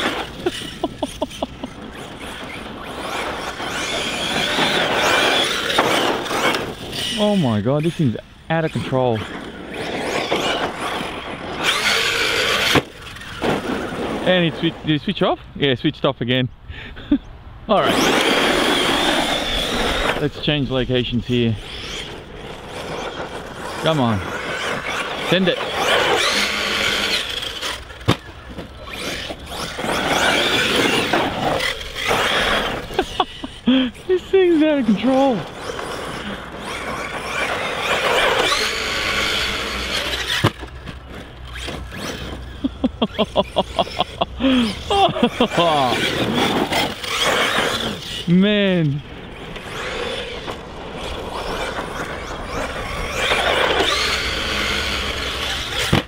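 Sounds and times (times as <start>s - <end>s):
electric motor whining: 0.0s - 14.2s, 17.7s - 56.0s
rc truck tyre and drivetrain noise: 0.0s - 56.0s.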